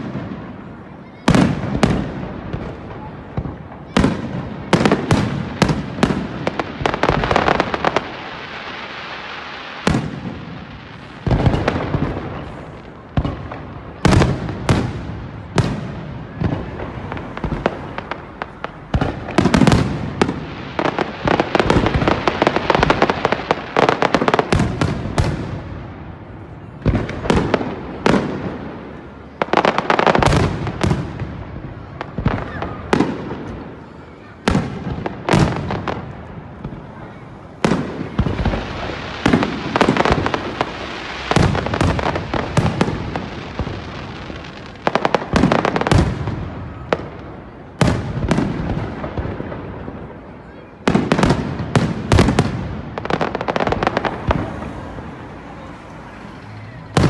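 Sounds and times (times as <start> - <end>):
fireworks bursting with loud bangs: 0.0 - 57.0.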